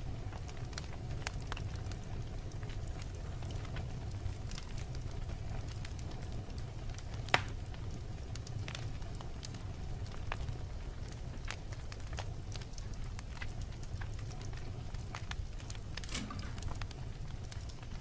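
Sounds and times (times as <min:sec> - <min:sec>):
fire crackling: 0:00.0 - 0:18.0
low rumble of flames: 0:00.0 - 0:18.0.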